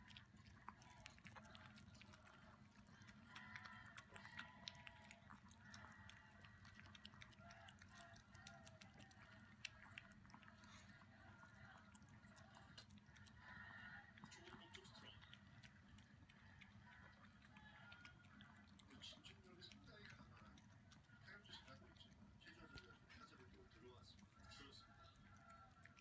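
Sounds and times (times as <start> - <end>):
dog chewing food: 0.0 - 26.0.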